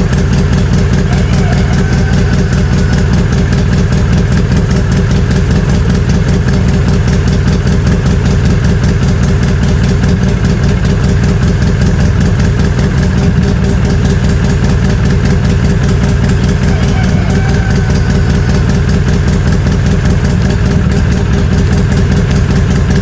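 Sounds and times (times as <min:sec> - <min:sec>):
atv engine idling: 0:00.0 - 0:23.0.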